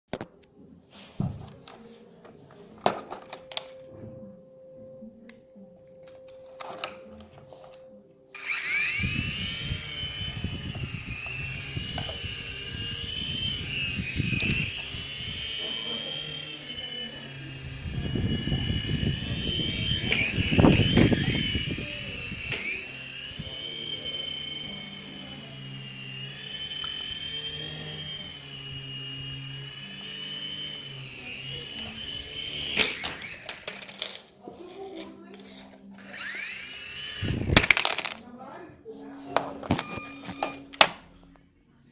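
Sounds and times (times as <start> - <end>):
toy helicopter motor whine: 6.2 - 38.2, 39.4 - 41.0.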